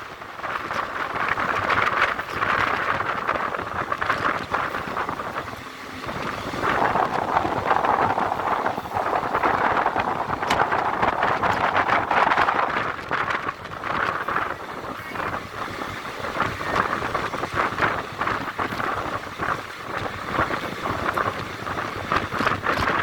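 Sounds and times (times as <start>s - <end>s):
train running on track: 0.0s - 23.0s
wheels rattling and knocking: 0.0s - 23.0s
wind on microphone: 0.0s - 23.0s.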